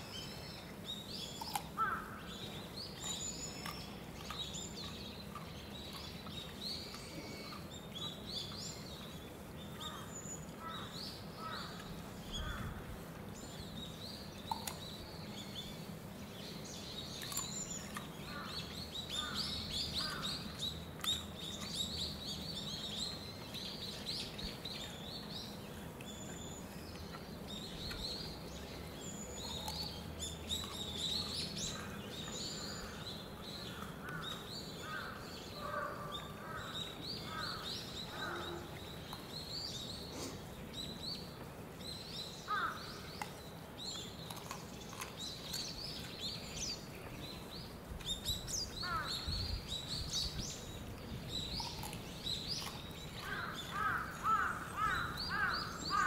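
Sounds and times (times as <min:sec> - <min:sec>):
birds chirping and twittering: 0:00.0 - 0:56.0
lower evenly spaced bird calls: 0:00.0 - 0:56.0.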